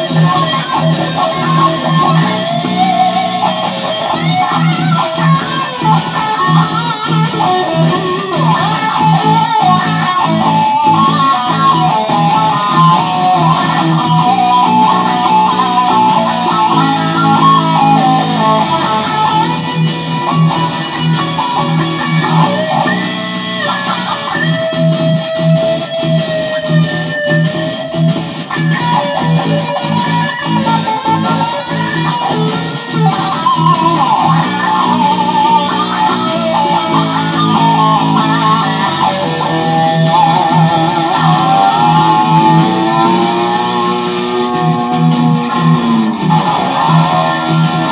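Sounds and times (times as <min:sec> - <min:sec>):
electric guitar blues solo: 0:00.0 - 0:47.9.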